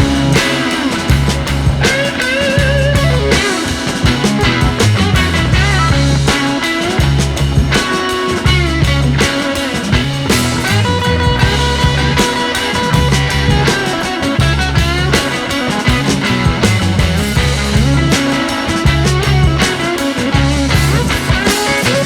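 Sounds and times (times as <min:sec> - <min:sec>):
rock backing track with guitar: 0:00.0 - 0:22.0
steady bass beat: 0:00.0 - 0:22.0.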